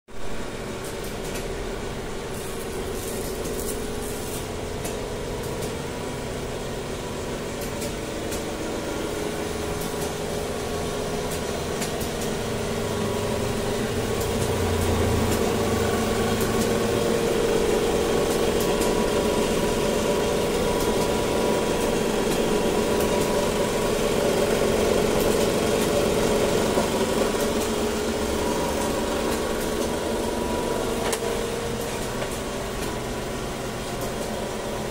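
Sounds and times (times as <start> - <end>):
machine hum with fixed tones: 0.1 - 34.9.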